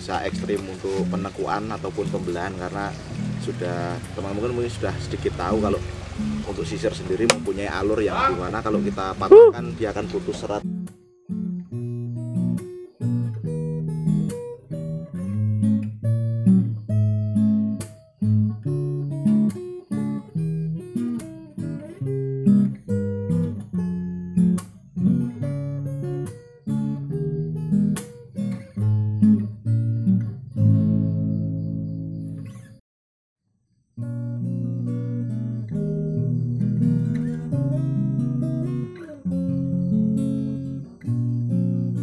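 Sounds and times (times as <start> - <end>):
plucked acoustic guitar: 0.0 - 32.7, 34.0 - 42.0.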